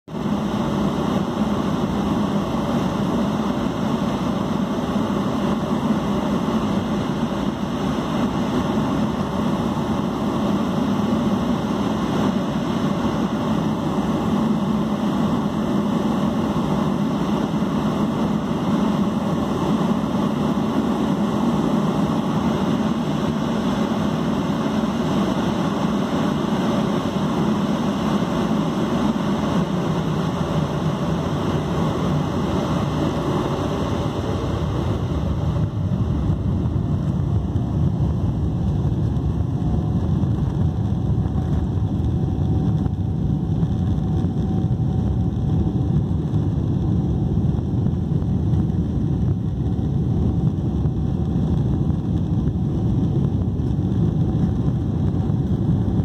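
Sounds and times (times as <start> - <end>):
jet engines humming in cabin: 0.1 - 56.0.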